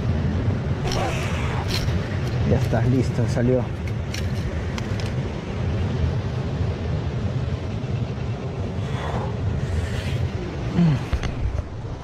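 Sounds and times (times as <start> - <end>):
surf rumbling: 0.0 - 12.0
wind: 0.0 - 12.0.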